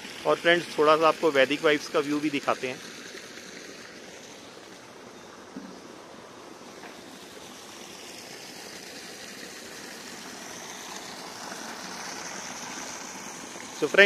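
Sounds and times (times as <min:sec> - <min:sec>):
waterfall rushing into pond: 0:00.0 - 0:14.0.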